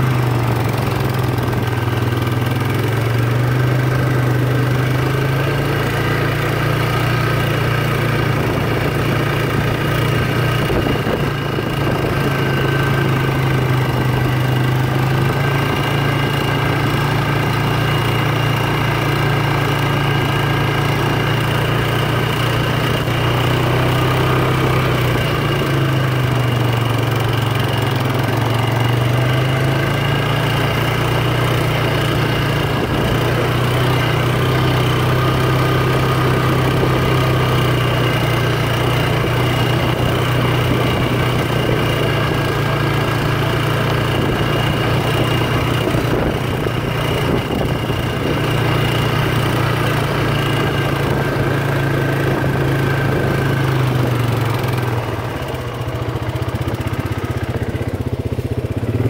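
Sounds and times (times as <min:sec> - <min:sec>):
atv engine droning: 0:00.0 - 0:59.0.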